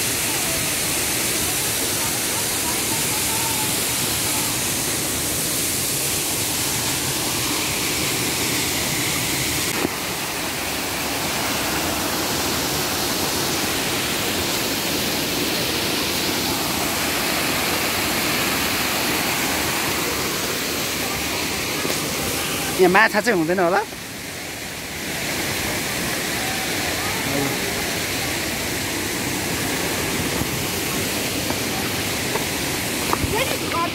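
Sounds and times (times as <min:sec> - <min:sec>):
waterfall rushing over rocks: 0:00.0 - 0:33.9.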